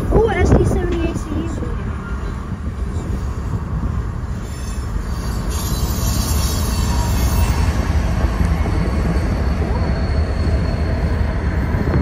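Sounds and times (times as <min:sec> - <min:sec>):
freight train running past: 0:00.0 - 0:12.0.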